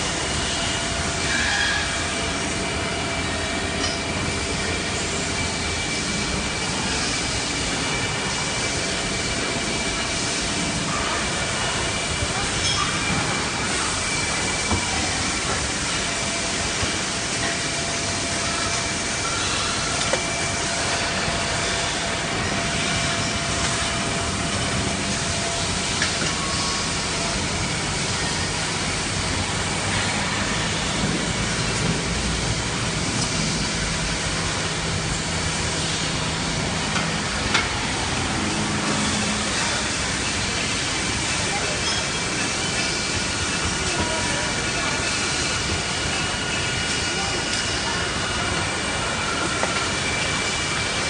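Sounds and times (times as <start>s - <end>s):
machine hiss: 0.0s - 51.0s.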